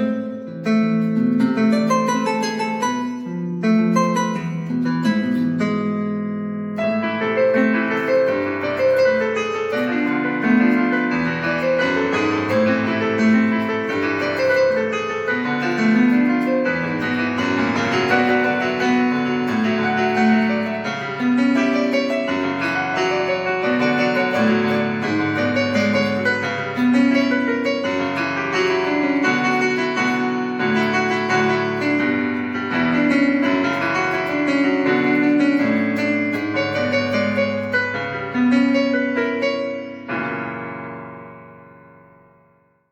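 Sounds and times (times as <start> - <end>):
piano keyboard music: 0.0 - 42.9.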